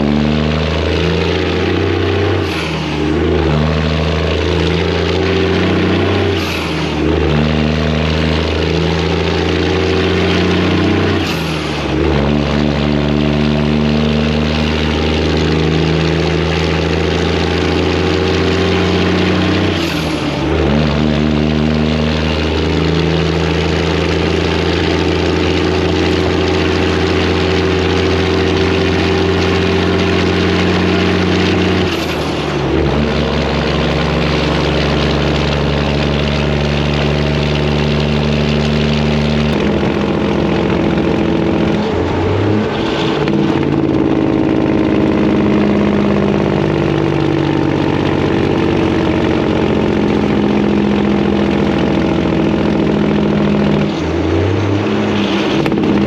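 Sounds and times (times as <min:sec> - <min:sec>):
diesel engine pulling under load: 0:00.0 - 0:56.0.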